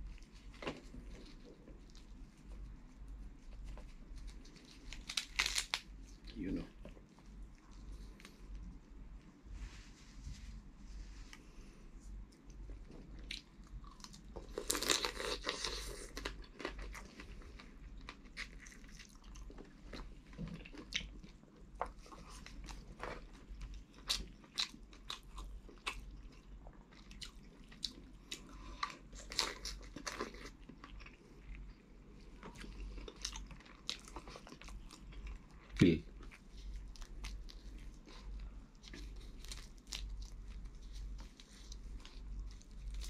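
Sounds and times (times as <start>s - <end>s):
chewing and crunching seafood: 0.0s - 9.2s, 12.2s - 43.0s.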